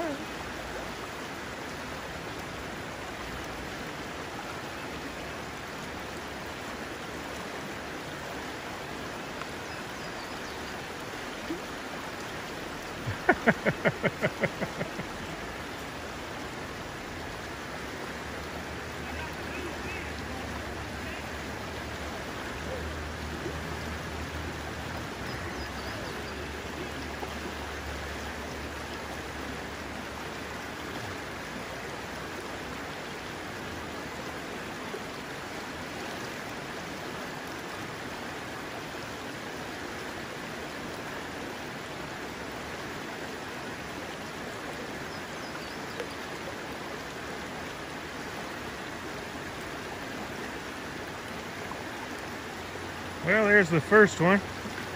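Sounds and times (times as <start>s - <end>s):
fast-flowing stream rushing: 0.0s - 54.9s.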